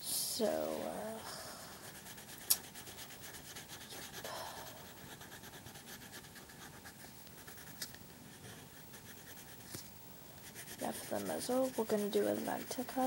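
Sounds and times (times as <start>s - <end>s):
colouring strokes scratching on paper: 1.6s - 9.8s, 10.4s - 13.0s.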